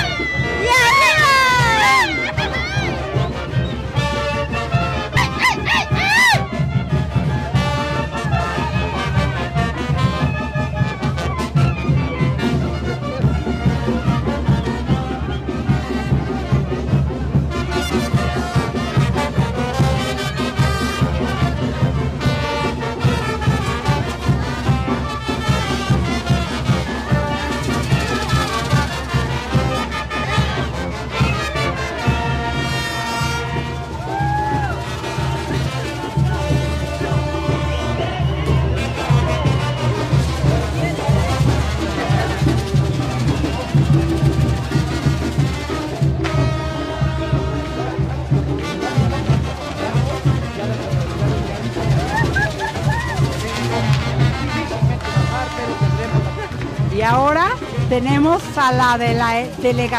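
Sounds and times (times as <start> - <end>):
clarinets and trumpets: 0.0 - 59.9
wind band playing: 0.0 - 59.9.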